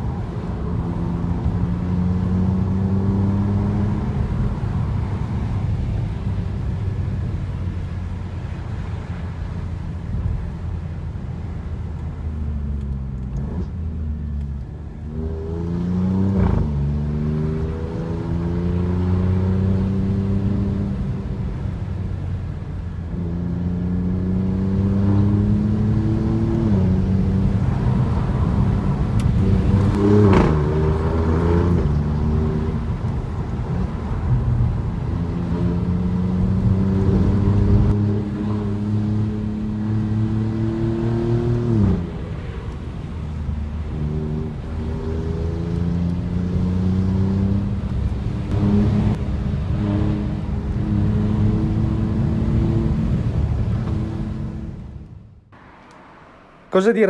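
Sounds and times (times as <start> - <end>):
car engine accelerating in cabin: 0.0 - 9.2, 11.9 - 22.2, 23.0 - 56.8.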